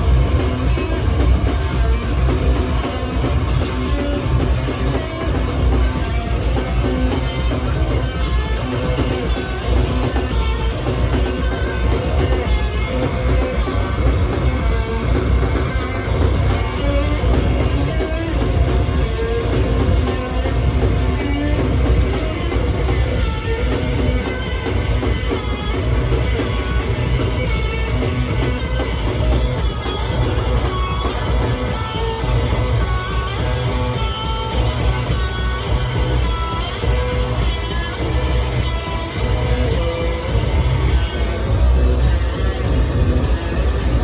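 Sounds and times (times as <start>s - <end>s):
distorted bass guitar riffing: 0.0s - 44.0s
rapid drumming: 0.0s - 44.0s.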